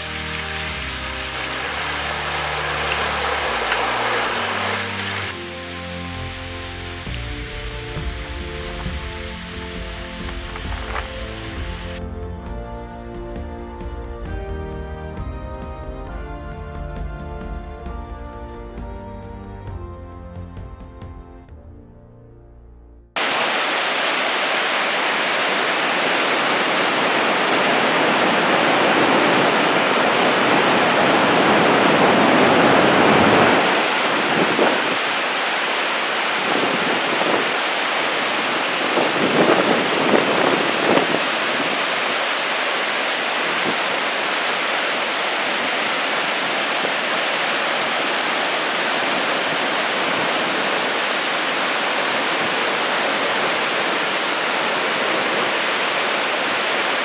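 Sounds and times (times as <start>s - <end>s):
river rapids rushing: 0.0s - 12.0s, 23.2s - 57.0s.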